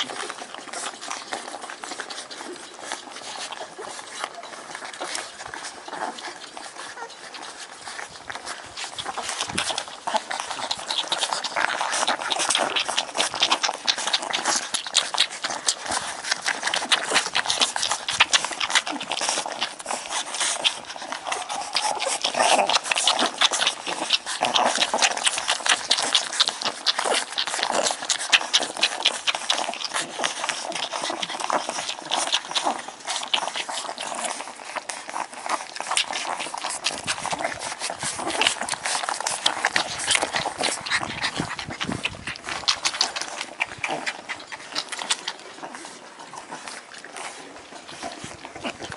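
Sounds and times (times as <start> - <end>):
puppies squeaking and whimpering: 0.0 - 48.9
puppies suckling: 0.0 - 48.9.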